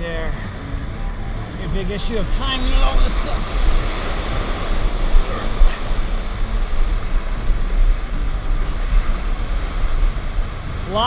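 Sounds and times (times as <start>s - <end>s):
ocean waves breaking: 0.0s - 11.0s
wind rumbling on microphone: 0.0s - 11.0s.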